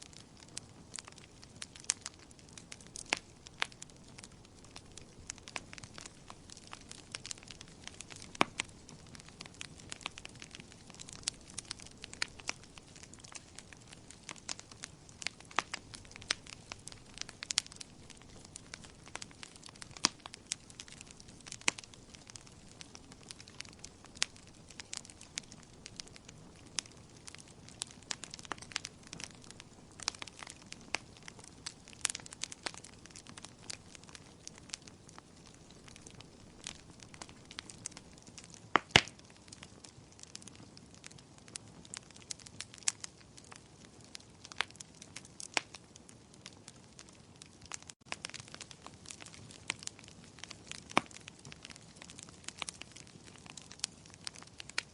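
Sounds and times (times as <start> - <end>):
low hiss of burning: 0.0 - 54.9
wood fire crackling and popping: 0.0 - 54.9.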